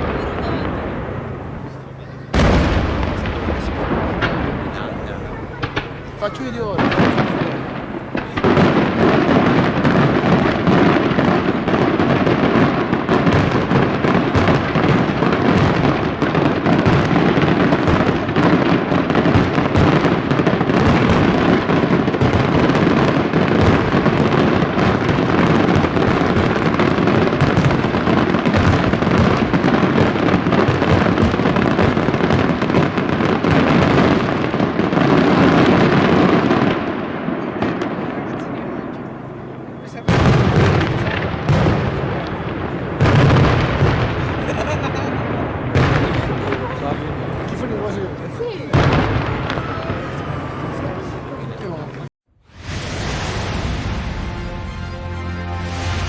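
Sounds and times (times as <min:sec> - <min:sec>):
fireworks bangs and crackles: 0:00.0 - 0:54.7.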